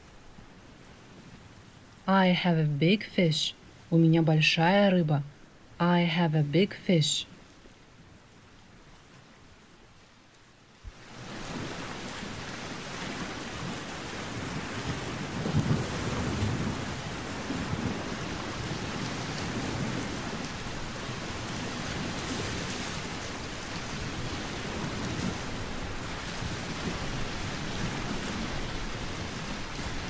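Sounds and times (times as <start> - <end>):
waves rushing: 0.0 - 7.7, 10.8 - 30.0
wind: 0.0 - 30.0.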